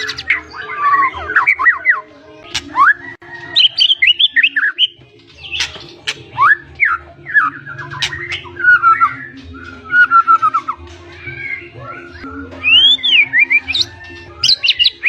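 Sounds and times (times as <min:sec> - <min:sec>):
bird singing whistled phrases: 0:00.0 - 0:15.0.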